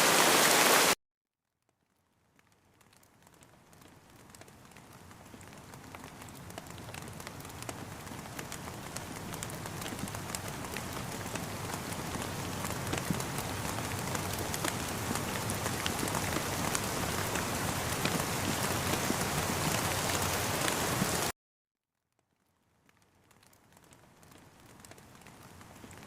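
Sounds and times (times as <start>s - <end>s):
steady rain with tapping drops: 0.0s - 1.0s, 1.6s - 21.3s, 22.1s - 26.0s.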